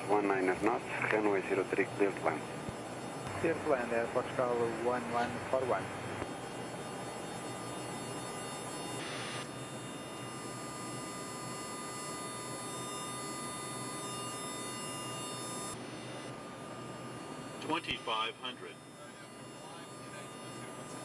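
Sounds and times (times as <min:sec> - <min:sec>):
electrical hum: 0:00.0 - 0:21.0
faint steady tones: 0:00.0 - 0:21.0.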